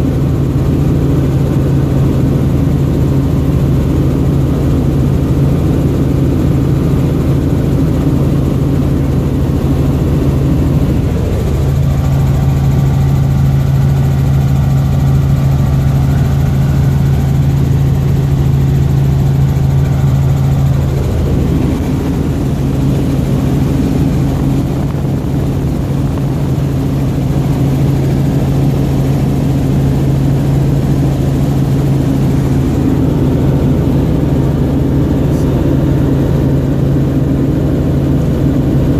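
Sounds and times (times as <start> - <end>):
low hum: 0.0 - 38.4
helicopter engine and rotor drone: 0.0 - 38.9.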